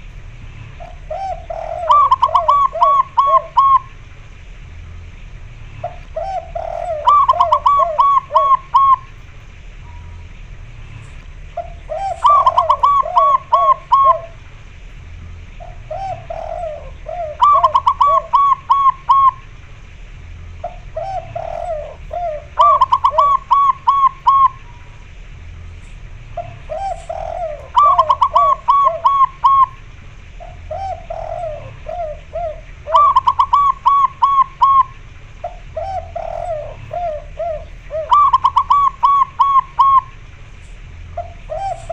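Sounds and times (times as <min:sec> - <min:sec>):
doves cooing: 0:00.0 - 0:41.9.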